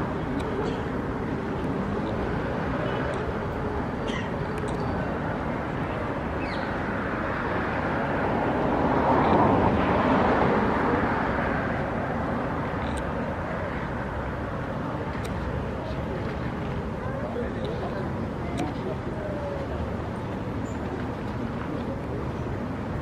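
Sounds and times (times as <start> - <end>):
city background noise: 0.0 - 23.0.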